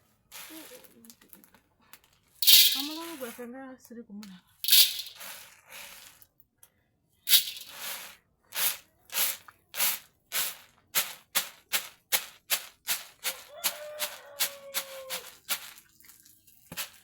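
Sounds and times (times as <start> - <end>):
dry grain rattling: 0.3 - 1.5, 2.4 - 3.5, 4.6 - 6.2, 7.3 - 17.0.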